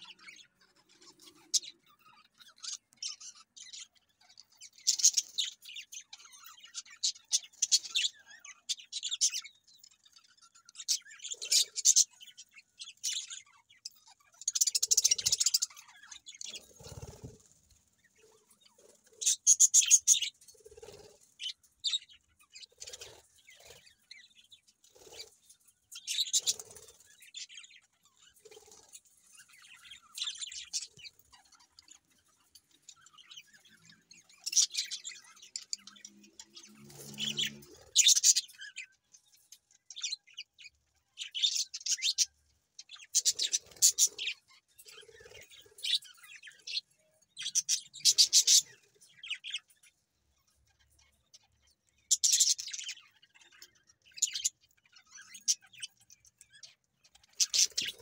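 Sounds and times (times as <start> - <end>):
budgerigars chirping and chattering: 0.0 - 58.0.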